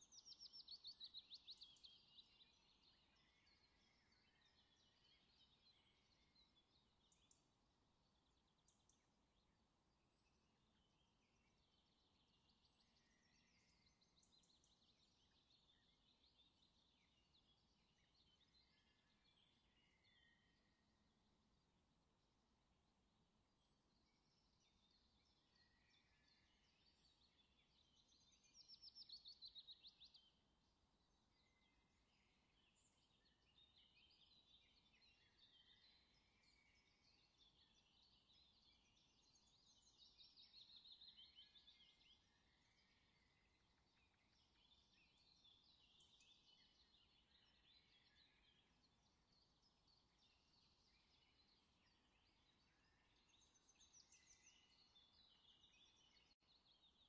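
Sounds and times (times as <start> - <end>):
faint birdsong chirps and trills: 0.0 - 57.0.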